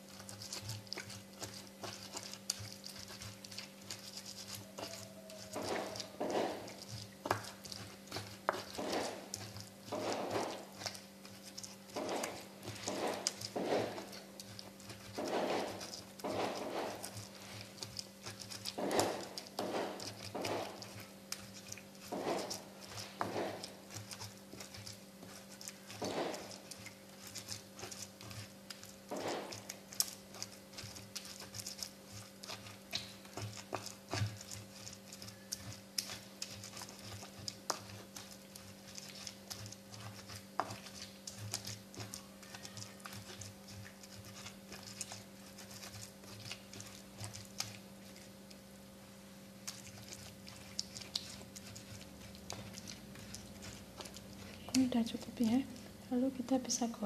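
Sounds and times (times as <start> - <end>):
pestle grinding in mortar: 0.0 - 57.0
steady low hum: 0.0 - 57.0.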